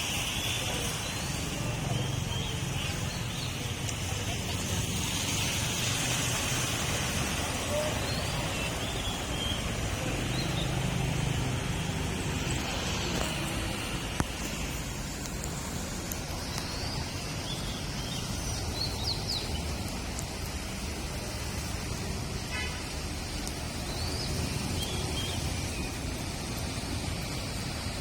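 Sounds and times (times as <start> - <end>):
traffic hum and road noise: 0.0 - 28.0.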